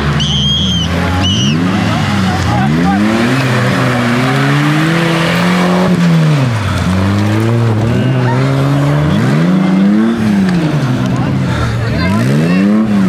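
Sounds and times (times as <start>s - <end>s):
off-road engine revving hard: 0.0s - 13.0s.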